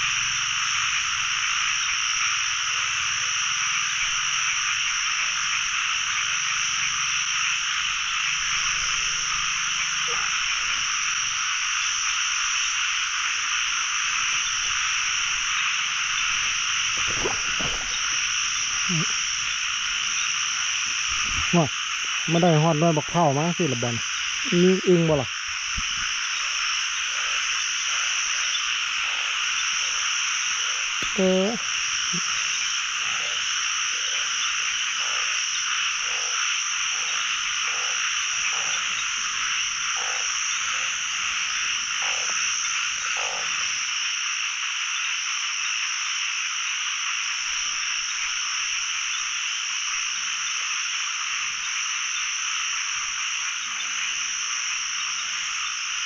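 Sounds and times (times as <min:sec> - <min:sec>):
chorus of frogs calling: 0:00.0 - 0:56.0
deep frog croak: 0:00.0 - 0:56.0
low frog croaks: 0:00.0 - 0:56.0.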